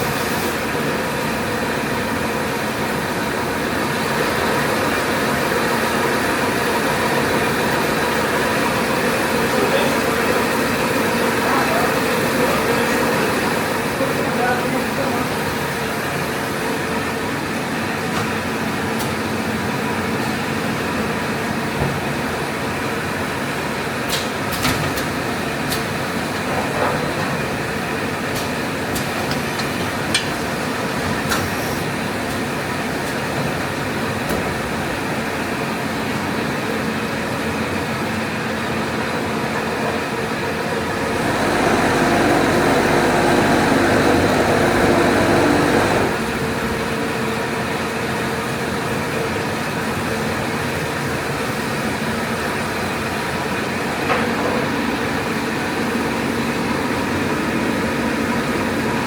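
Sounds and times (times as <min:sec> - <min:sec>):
machine hum and whir: 0:00.0 - 0:59.0.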